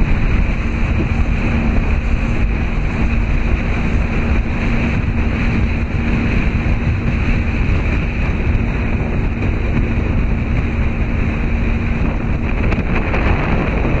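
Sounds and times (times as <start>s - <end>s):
steady low engine hum: 0.0s - 14.0s
wind buffeting microphone: 0.0s - 14.0s.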